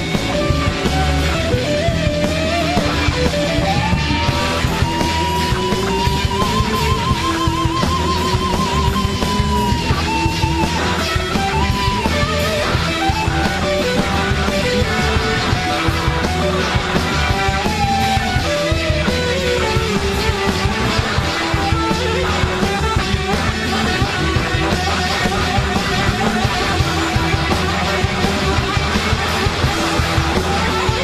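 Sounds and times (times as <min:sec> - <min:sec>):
blues-rock band playing: 0:00.0 - 0:31.0
electric guitar solo: 0:00.0 - 0:31.0.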